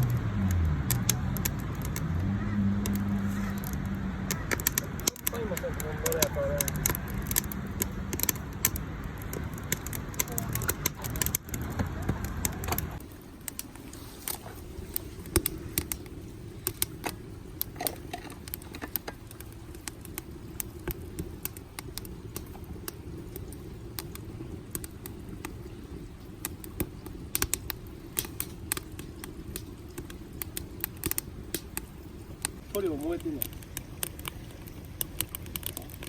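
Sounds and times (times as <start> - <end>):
low rush of flame: 0.0 - 36.0
wood fire crackling: 0.0 - 36.0.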